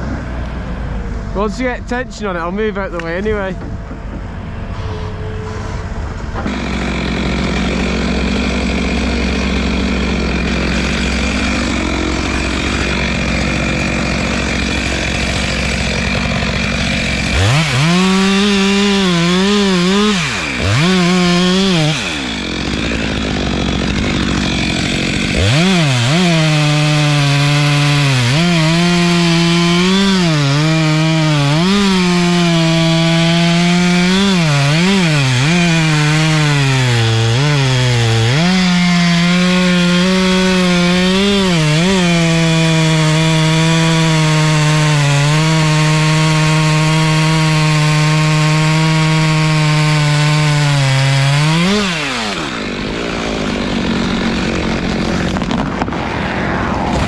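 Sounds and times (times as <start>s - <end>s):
chainsaw cutting tree trunk: 6.4s - 56.0s.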